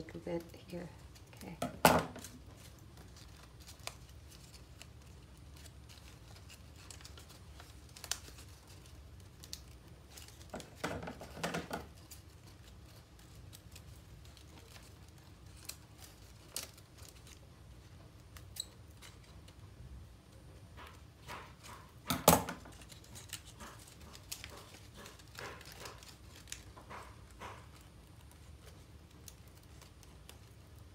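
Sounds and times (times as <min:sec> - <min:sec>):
paper rustling and crinkling: 0:00.0 - 0:19.8, 0:20.4 - 0:30.9.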